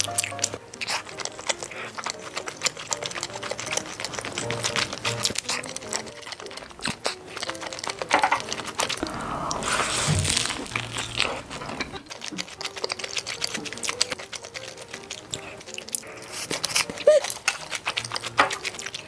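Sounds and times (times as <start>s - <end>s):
chewing rice cakes: 0.0s - 19.0s
soft background music: 0.0s - 19.0s.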